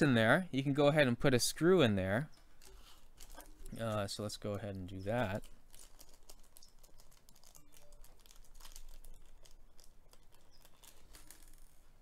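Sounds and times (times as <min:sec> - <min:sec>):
plastic bag crinkling: 0:02.4 - 0:12.0.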